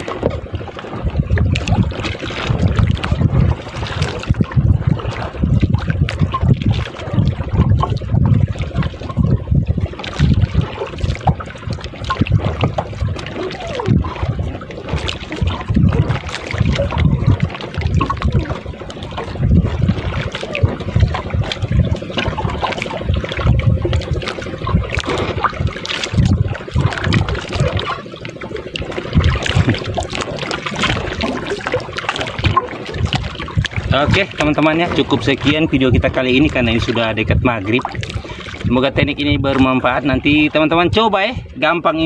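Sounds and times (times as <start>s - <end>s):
water lapping against boat hull: 0.0s - 42.0s.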